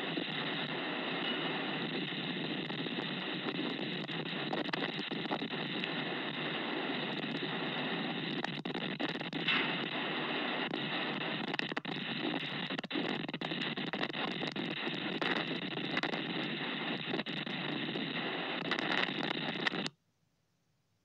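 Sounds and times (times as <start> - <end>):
crackles and clicks: 0.0 - 20.0.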